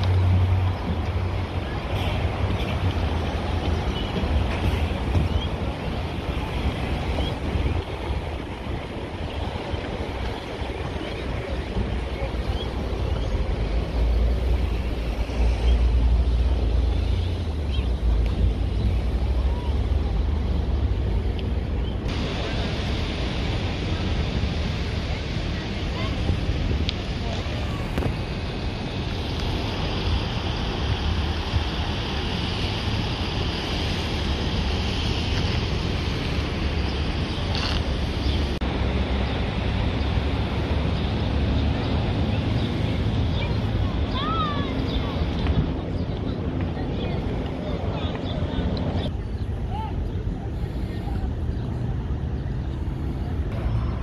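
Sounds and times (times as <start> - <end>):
city road traffic hum: 0.0 - 54.0
wind buffeting microphone: 0.0 - 54.0.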